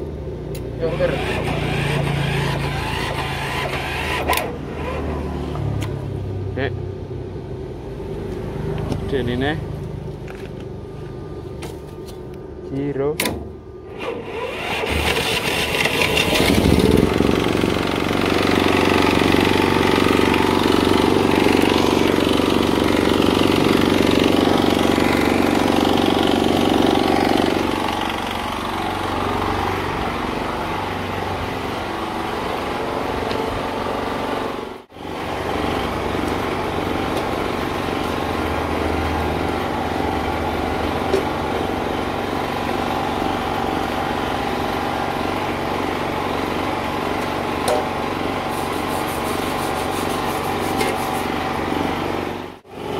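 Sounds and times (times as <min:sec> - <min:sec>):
portable generator engine: 0:00.0 - 0:52.9.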